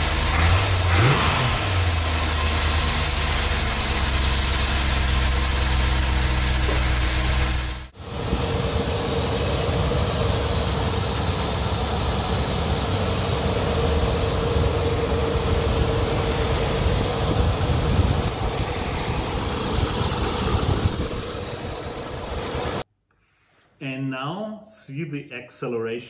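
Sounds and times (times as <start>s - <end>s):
car engine and road rumble: 0.0s - 22.9s.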